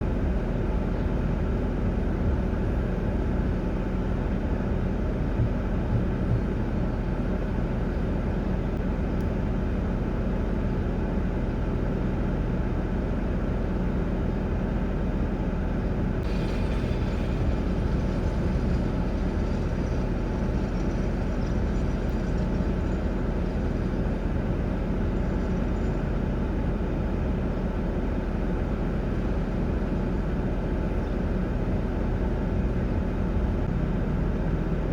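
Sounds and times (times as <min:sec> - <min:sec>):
vehicle rumbling: 0:00.0 - 0:34.9.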